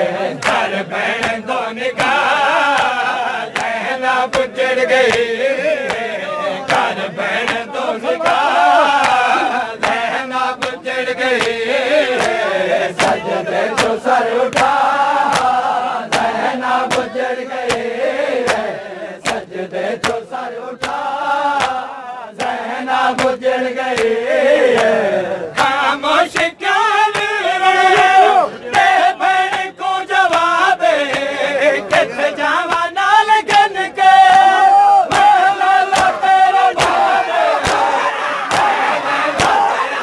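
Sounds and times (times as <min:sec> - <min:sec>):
men chanting: 0:00.0 - 0:40.0
hands slapping chests: 0:00.3 - 0:39.9.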